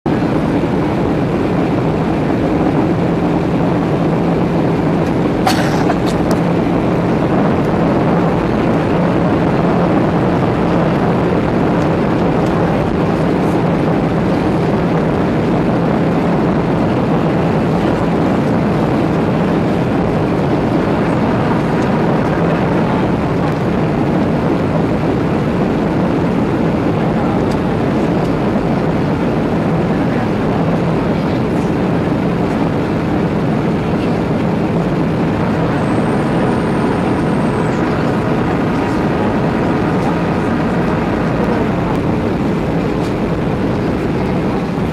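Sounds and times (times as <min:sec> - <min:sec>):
airplane cabin rushing air and hum: 0:00.0 - 0:44.9.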